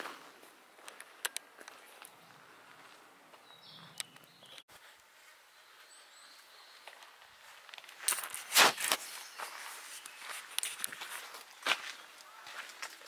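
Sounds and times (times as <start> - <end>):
footsteps scuffing on path: 0.0 - 13.0.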